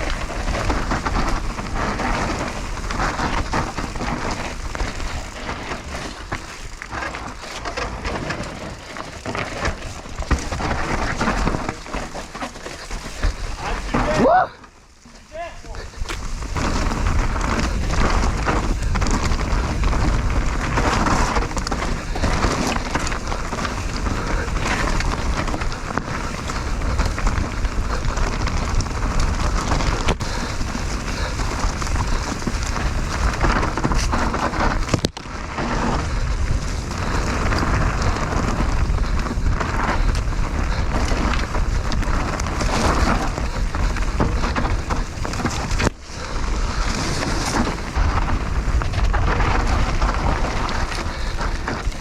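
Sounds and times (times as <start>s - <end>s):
bike rattling: 0.0s - 52.0s
bike tyres crunching over soil: 0.0s - 52.0s
wind rumble on microphone: 0.0s - 52.0s.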